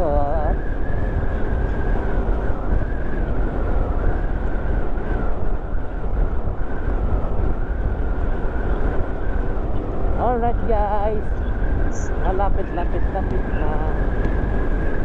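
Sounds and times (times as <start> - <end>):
motorcycle engine rumble: 0.0 - 15.0
thin wavering whine: 0.0 - 15.0
wind rushing over microphone: 0.0 - 15.0.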